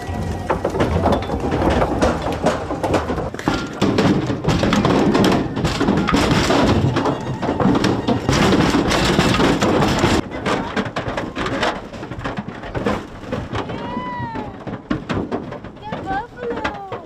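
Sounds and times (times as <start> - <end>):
hooves clattering and thudding: 0.0 - 17.0.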